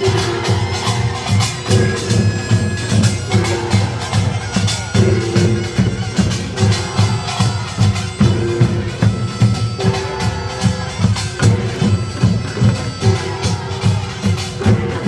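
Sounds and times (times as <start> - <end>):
drums beating fast rhythm: 0.0 - 15.0
shawm playing long notes: 0.0 - 15.0
small gongs beating: 0.0 - 15.0.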